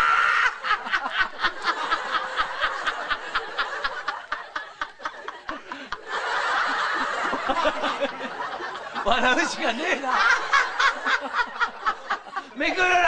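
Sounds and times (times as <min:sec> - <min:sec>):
woman laughing hysterically: 0:00.0 - 0:12.6.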